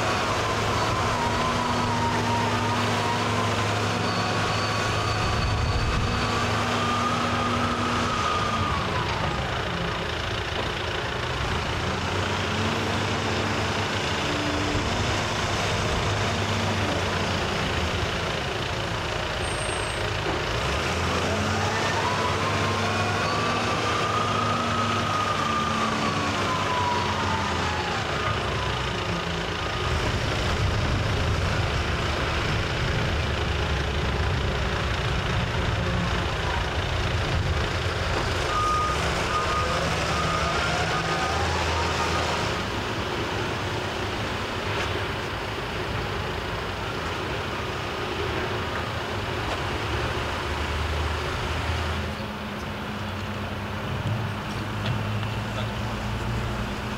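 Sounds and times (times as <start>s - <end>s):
diesel engine revving: 0.0s - 56.9s
engine whine: 0.0s - 56.9s.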